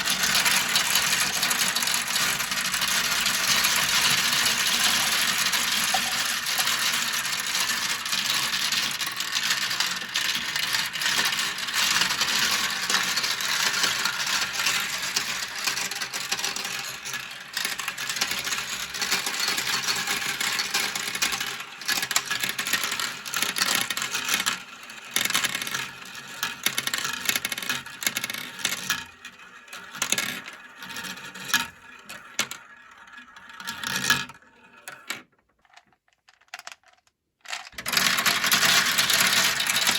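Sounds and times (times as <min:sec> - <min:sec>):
marbles rattling down plastic run: 0:00.0 - 0:39.9.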